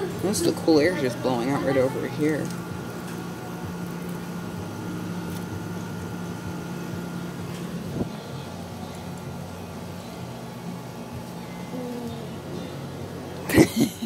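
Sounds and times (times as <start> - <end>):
air conditioner hum: 0.0 - 14.0.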